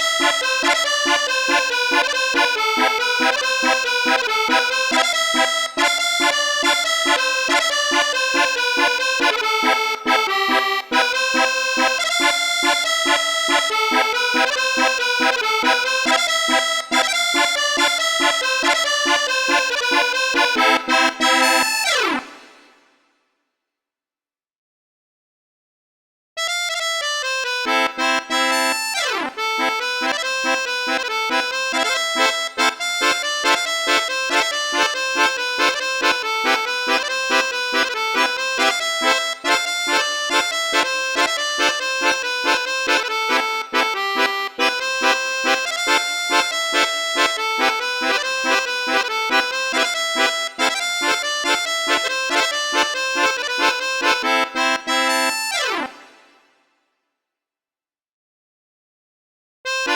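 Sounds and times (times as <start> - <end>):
electronic melodica music: 0.0 - 22.8, 26.4 - 56.5, 59.7 - 59.9.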